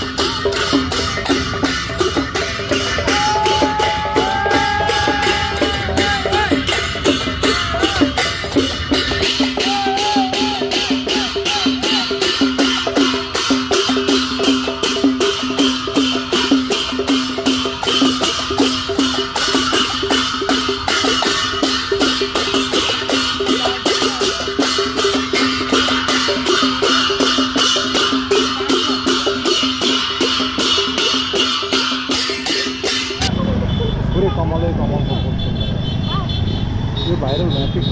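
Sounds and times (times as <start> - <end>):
drum beat: 0.0 - 33.3
hand cymbals clashing: 0.0 - 33.4.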